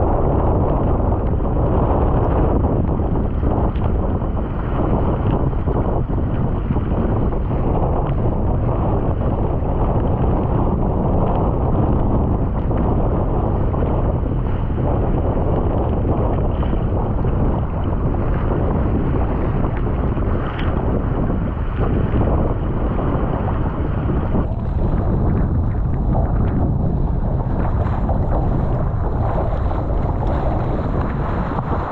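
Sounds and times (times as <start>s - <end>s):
wind buffeting microphone: 0.0s - 31.9s
water splashing around boat: 0.1s - 31.9s.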